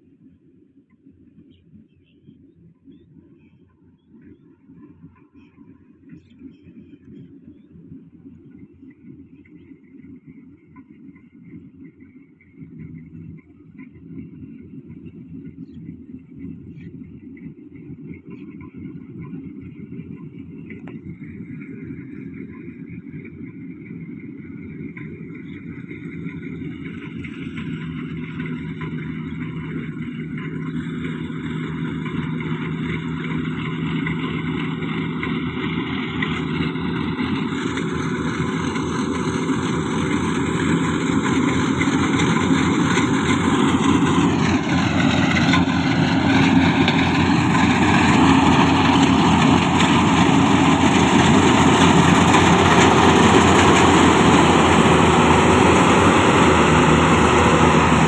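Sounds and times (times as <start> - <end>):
combine harvester running: 9.9 - 58.0.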